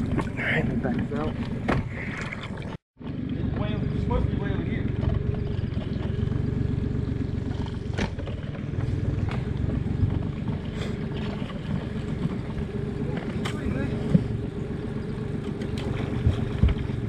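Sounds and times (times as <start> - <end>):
small boat motor running: 0.0 - 17.0.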